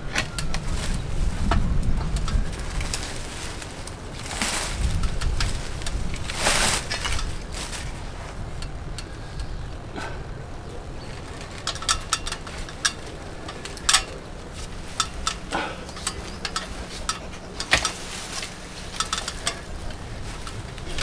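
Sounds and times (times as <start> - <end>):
branches snipped and snapped: 0.0 - 9.5, 11.1 - 21.0
leaves rustling: 0.0 - 21.0
wind rumble on microphone: 0.0 - 21.0.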